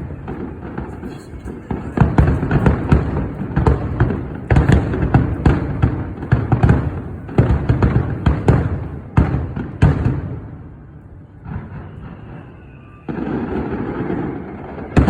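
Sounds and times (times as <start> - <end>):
fireworks bangs and booms: 0.0 - 15.0
fireworks crackle: 0.0 - 15.0.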